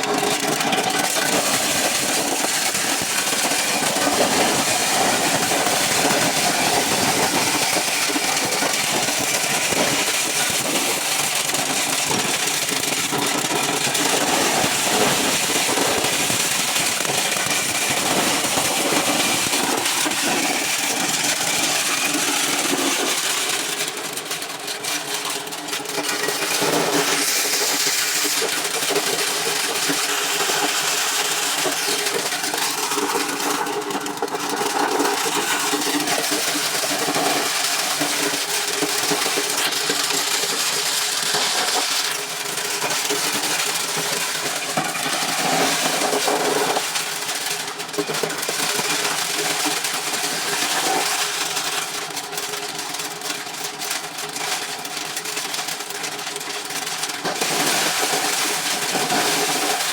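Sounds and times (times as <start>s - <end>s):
corn-shelling machine running: 0.0s - 59.9s.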